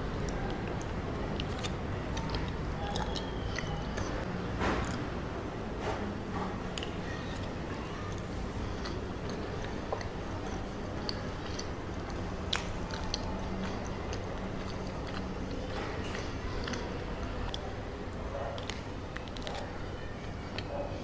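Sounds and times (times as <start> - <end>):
sticky chewing mouth clicks: 0.2 - 4.2, 6.8 - 19.7.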